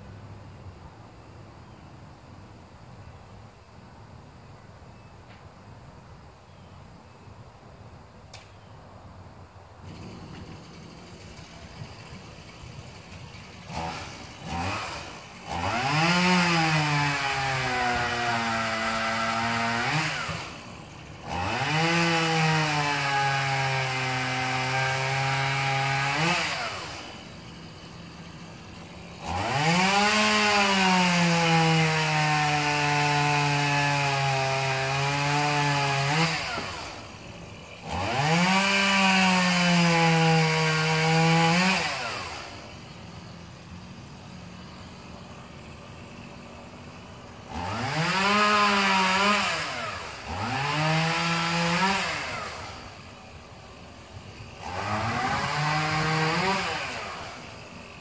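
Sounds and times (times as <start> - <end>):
chainsaw revving and cutting wood: 9.8 - 58.0.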